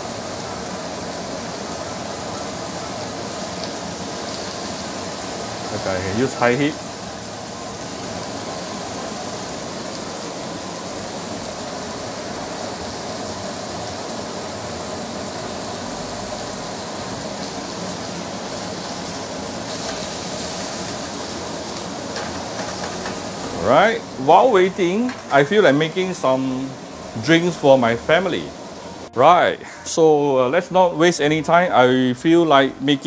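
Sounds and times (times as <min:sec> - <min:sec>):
meat sizzling on grill plate: 0:00.0 - 0:32.9.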